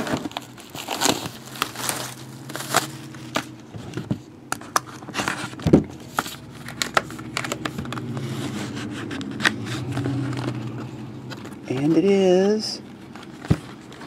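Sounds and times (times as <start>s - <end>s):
hands opening card box: 0.0s - 14.0s
low steady hum: 0.0s - 14.0s.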